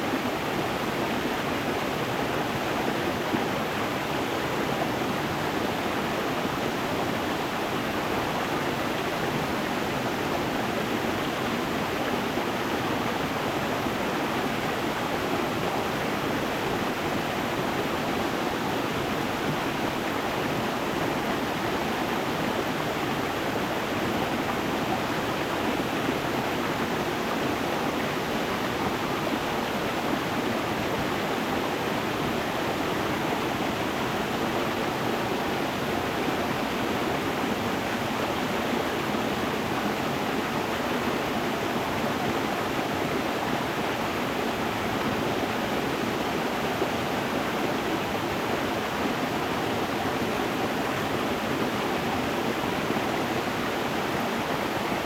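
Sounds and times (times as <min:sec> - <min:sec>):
stream water rushing over stones: 0:00.0 - 0:55.0.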